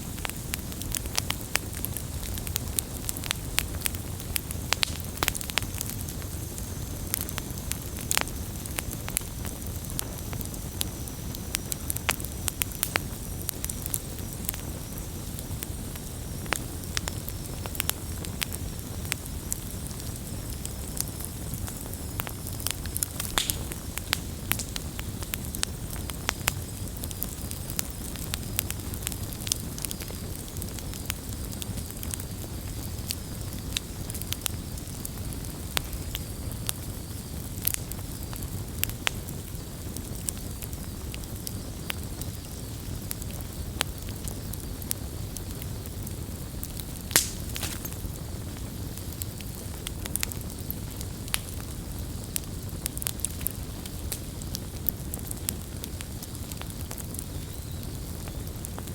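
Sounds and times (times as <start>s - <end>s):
campfire rumbling: 0.0s - 58.9s
fire crackling and popping: 0.0s - 58.9s.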